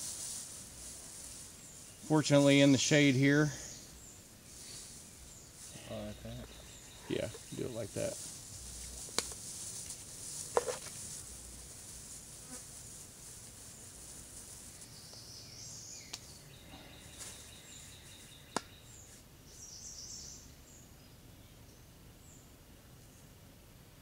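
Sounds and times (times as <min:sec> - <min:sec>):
faint insect buzzing: 0:00.0 - 0:19.8.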